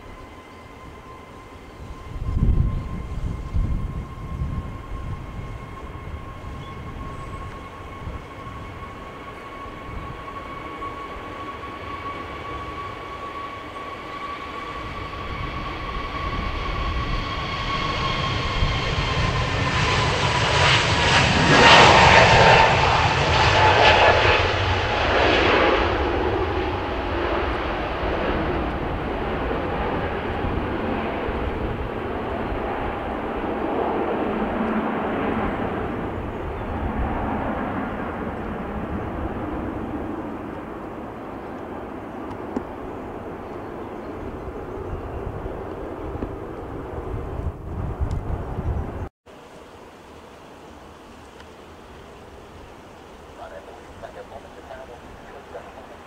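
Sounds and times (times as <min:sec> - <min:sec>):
jet engines whining: 0:00.0 - 0:49.1, 0:50.8 - 0:56.0
jet roaring: 0:00.0 - 0:49.1, 0:52.2 - 0:56.0.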